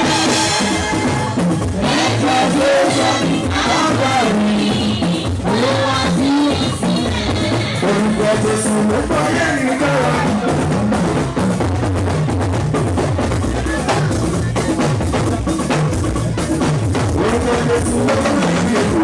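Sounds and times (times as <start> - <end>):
drums and percussion: 0.0 - 19.0.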